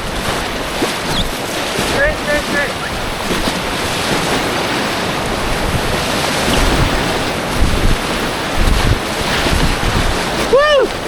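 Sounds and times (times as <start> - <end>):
rushing whitewater: 0.0 - 11.0
wind buffeting microphone: 0.0 - 11.0.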